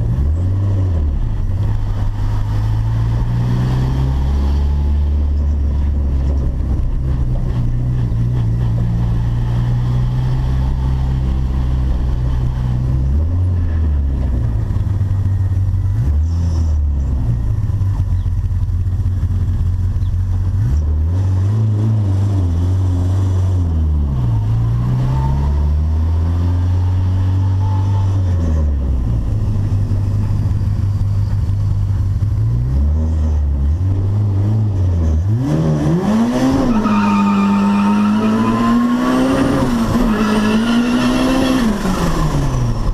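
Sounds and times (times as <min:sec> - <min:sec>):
turbo car engine revving: 0:00.0 - 0:42.9.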